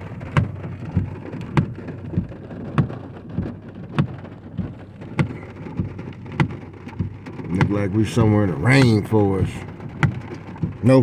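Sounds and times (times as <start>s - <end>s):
heavy rain around a car: 0.0s - 11.0s.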